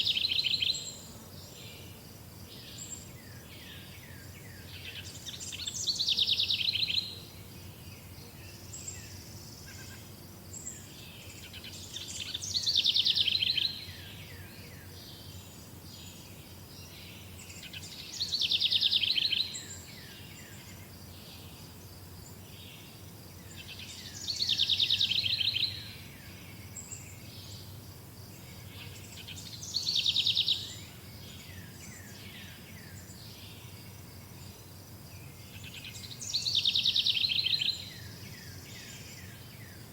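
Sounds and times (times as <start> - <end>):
high insect drone: 0.0 - 39.9
songbird singing: 0.0 - 39.9.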